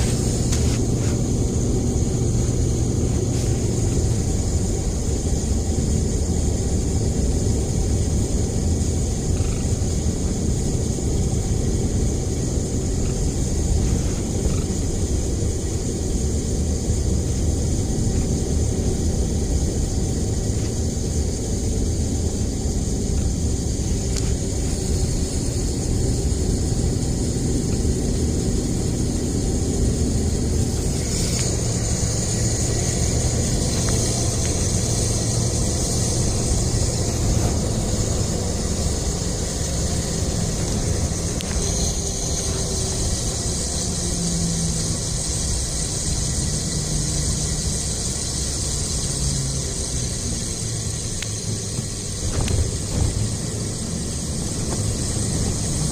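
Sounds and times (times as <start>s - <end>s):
hissing static-like noise: 0.0s - 55.9s
truck road rumble: 0.0s - 55.9s.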